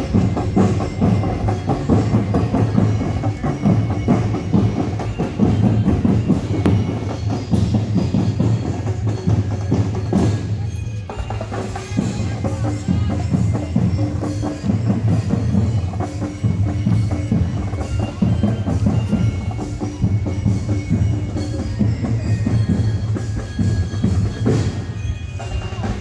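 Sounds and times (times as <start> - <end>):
driving drumming: 0.0 - 26.0.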